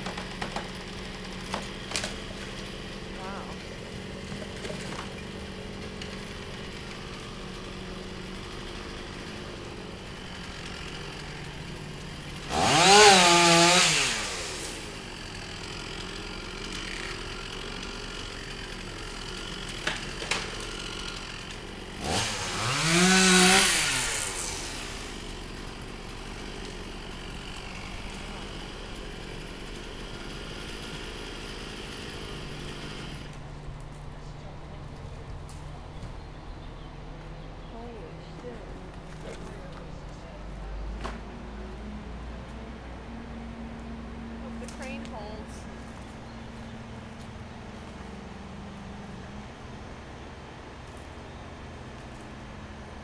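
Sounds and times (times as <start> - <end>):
chainsaw idling and revving: 0.0 - 35.6, 38.8 - 53.0.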